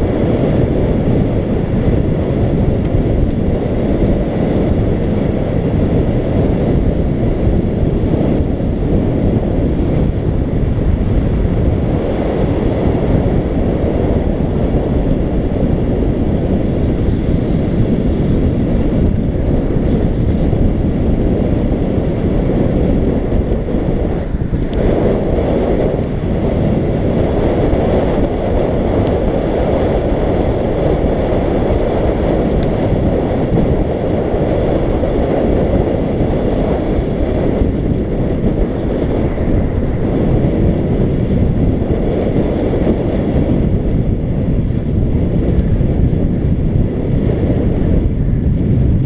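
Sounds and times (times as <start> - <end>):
bike tyres rolling on tarmac: 0.0 - 49.0
wind buffeting microphone: 0.0 - 49.0.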